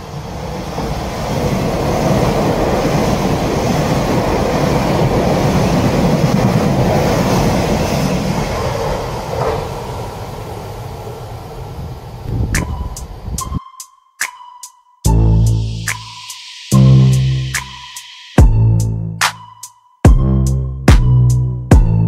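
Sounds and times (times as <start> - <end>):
electric train passing at speed: 0.0 - 13.9, 15.1 - 19.0.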